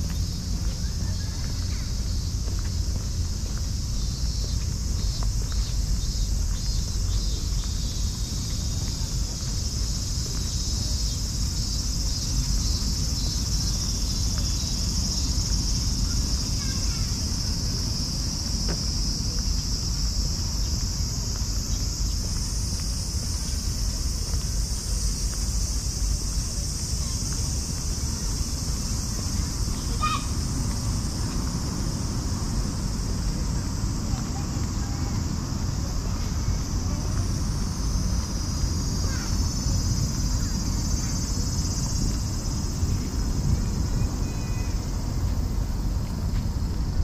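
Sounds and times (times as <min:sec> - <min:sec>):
cicadas droning: 0:00.0 - 0:47.0
wind rumble on microphone: 0:00.0 - 0:47.0.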